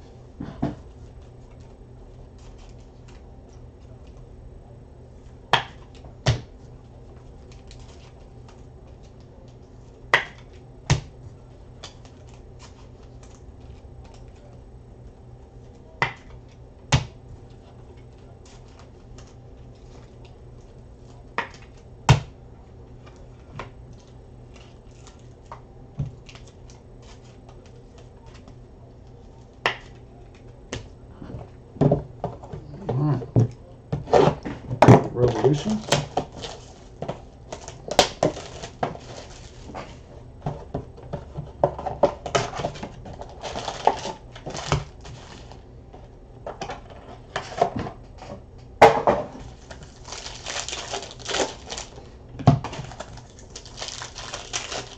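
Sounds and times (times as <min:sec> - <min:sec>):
low room hum: 0:00.0 - 0:54.9.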